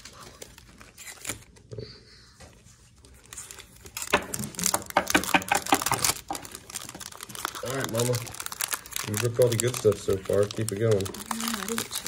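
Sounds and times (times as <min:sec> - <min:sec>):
foil wrapper crinkling: 0:00.0 - 0:01.7, 0:03.0 - 0:12.0.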